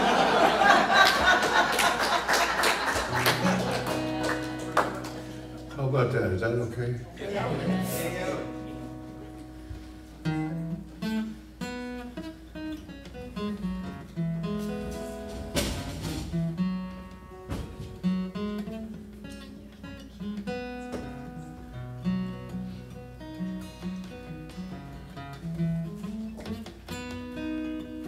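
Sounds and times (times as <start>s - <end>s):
acoustic guitar playing: 0.0s - 28.0s.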